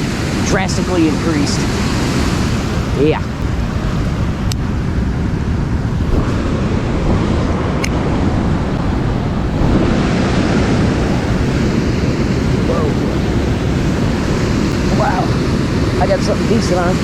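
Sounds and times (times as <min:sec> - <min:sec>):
water rushing through spillway: 0:00.0 - 0:17.0
wind buffeting microphone: 0:00.0 - 0:17.0.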